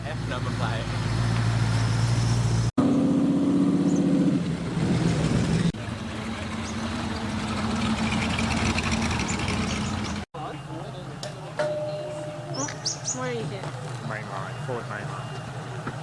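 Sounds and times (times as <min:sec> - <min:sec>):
car engines idling: 0:00.0 - 0:02.7, 0:04.4 - 0:16.0.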